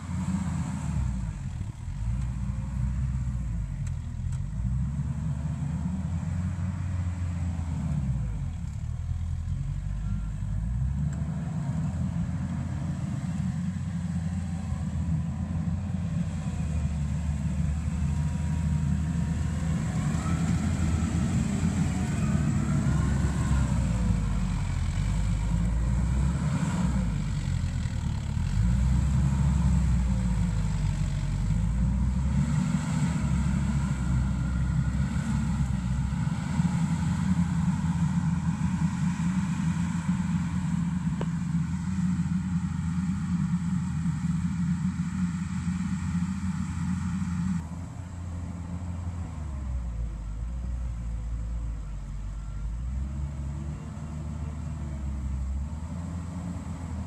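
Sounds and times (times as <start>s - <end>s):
diesel engine working under load: 0.0s - 57.0s.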